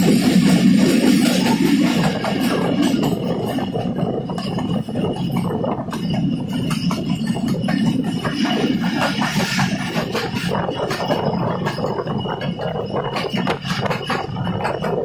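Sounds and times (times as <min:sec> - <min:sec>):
rapid clanks and rattles: 0:00.0 - 0:15.0
train wheels rumbling on rails: 0:00.0 - 0:15.0.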